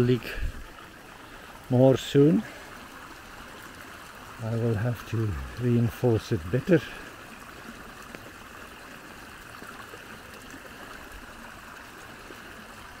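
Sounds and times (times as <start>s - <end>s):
water running in a small stream: 0.0s - 13.0s.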